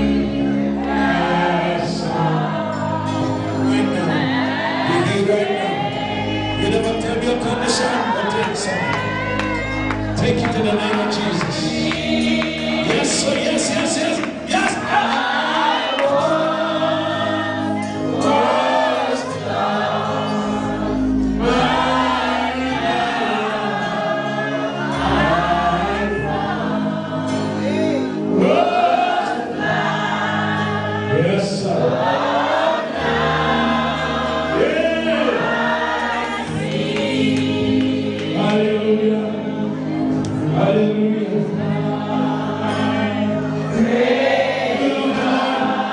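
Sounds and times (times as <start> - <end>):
congregation singing: 0.0 - 45.9.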